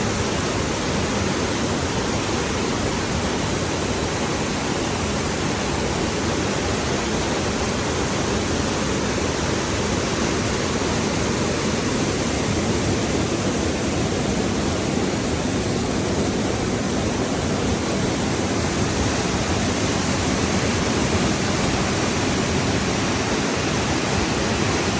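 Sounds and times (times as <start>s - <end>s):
river pouring over waterfall: 0.0s - 24.9s.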